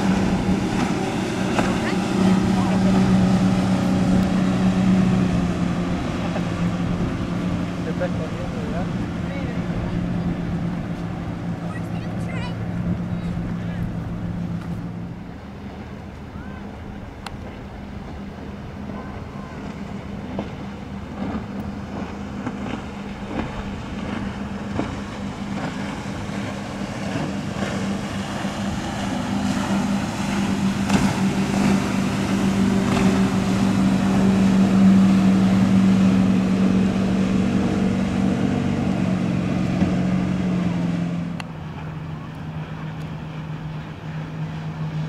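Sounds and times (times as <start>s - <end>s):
boat engine drone: 0.0s - 45.0s.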